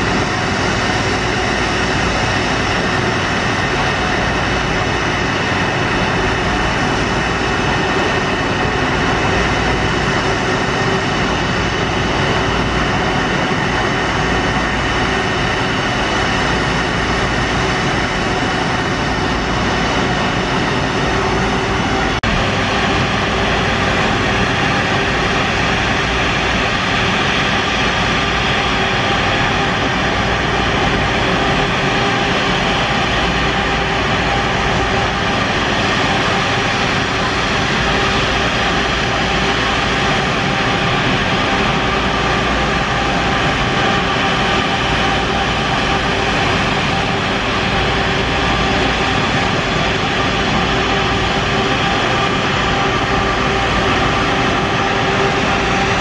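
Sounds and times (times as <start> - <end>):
jet engines whining on runway: 0.0 - 56.0
taxiing jet engines rumbling: 0.0 - 56.0.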